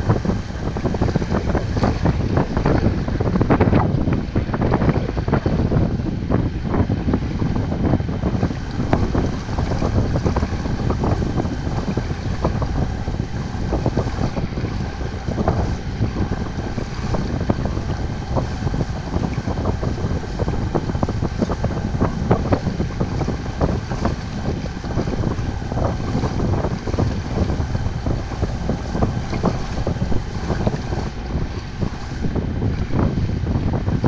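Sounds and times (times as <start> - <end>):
boat engine drone: 0.0 - 34.0
wind buffeting microphone: 0.0 - 34.0.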